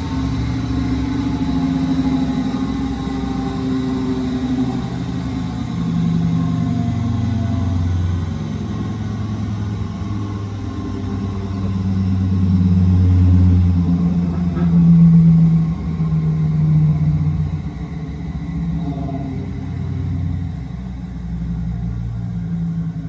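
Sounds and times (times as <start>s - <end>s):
washing machine motor humming: 0.0s - 23.0s.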